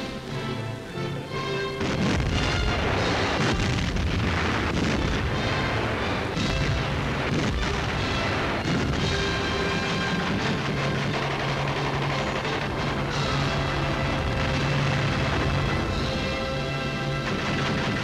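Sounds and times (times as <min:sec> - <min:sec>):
newsreel music: 0:00.0 - 0:18.0
artillery guns booming: 0:01.8 - 0:18.0.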